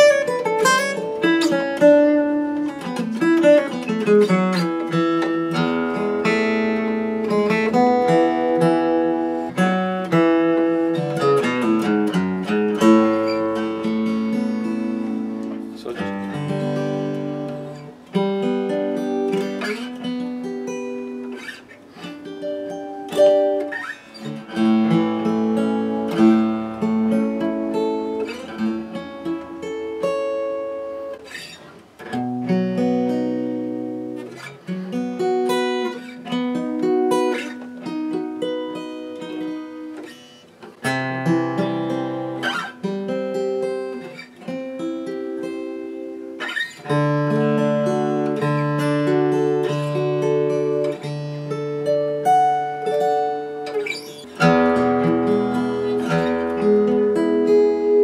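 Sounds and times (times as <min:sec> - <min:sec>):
acoustic guitar chords strummed: 0:00.0 - 0:58.0.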